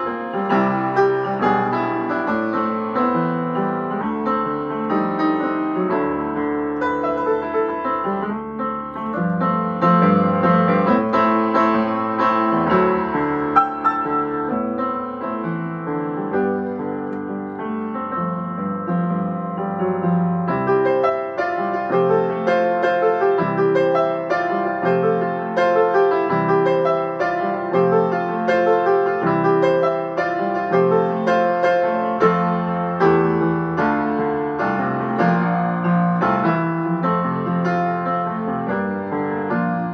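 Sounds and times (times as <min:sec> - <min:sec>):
solo upright piano: 0:00.0 - 0:39.9.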